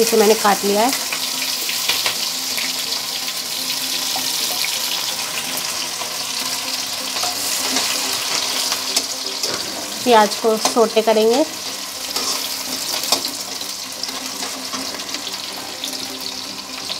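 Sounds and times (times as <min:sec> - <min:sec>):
onion sizzling in hot oil: 0:00.0 - 0:16.9.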